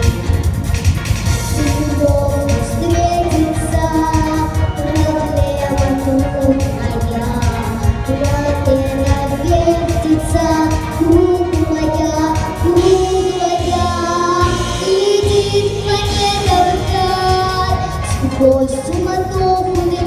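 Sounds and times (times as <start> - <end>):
pop backing track: 0.0 - 20.0
girl singing: 1.6 - 20.0.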